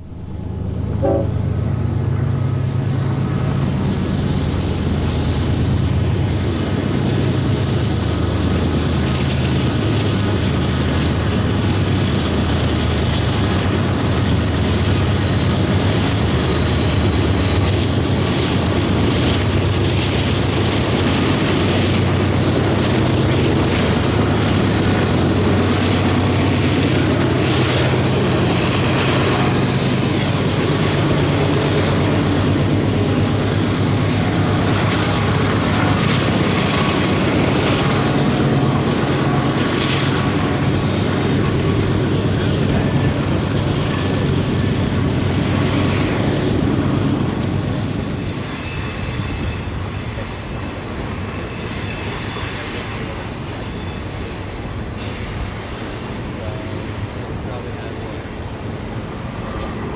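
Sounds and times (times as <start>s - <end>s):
locomotive engine drone: 0.0s - 59.9s
train wheels rushing on rails: 0.0s - 59.9s.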